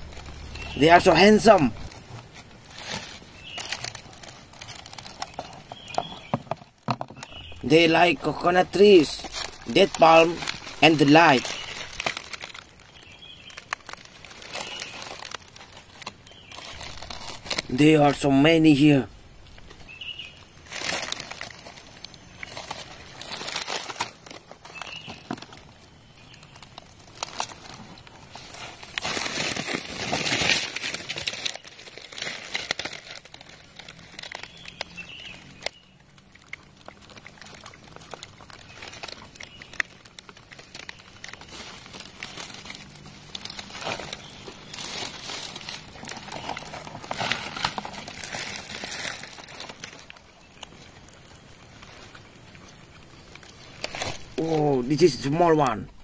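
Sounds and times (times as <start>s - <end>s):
palm fibre crackling and rustling: 0.0s - 56.0s.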